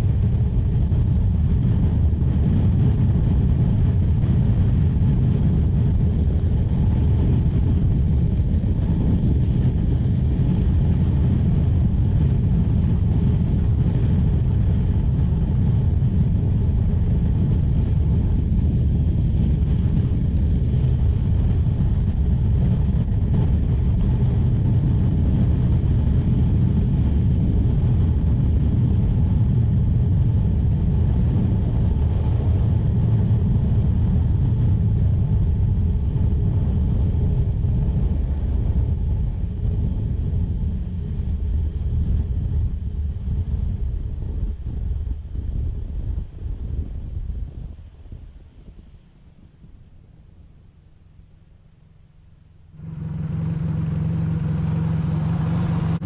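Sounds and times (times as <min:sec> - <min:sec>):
motorcycle engine and wind rumble: 0:00.0 - 0:56.0.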